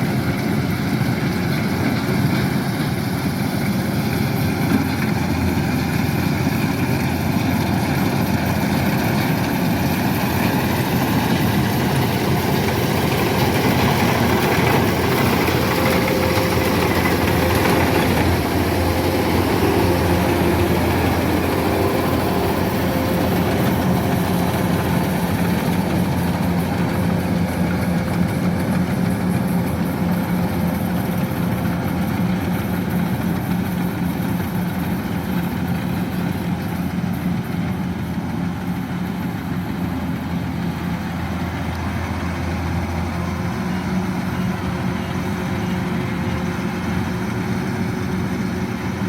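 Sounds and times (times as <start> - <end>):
combine harvester engine running: 0.0 - 49.0.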